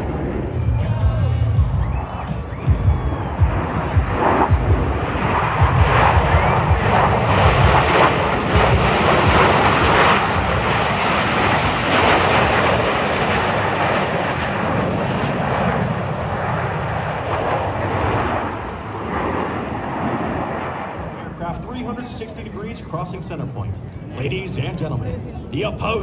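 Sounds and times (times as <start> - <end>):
airplane engine roar: 0.0 - 26.0.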